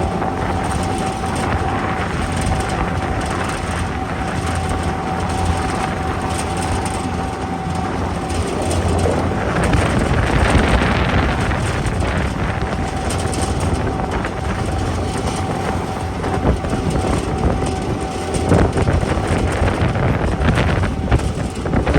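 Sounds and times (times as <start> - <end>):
steady high whine: 0.0 - 21.9
tug engine rumbling: 0.0 - 21.9
vehicle rattling and clattering: 0.0 - 21.9
wind on microphone: 0.0 - 21.9.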